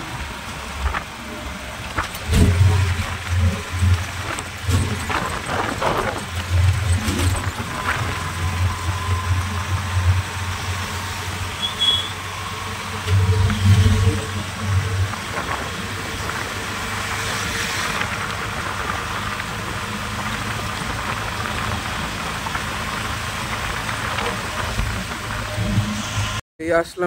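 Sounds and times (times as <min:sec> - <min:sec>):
vehicle engine and road noise: 0:00.0 - 0:26.4.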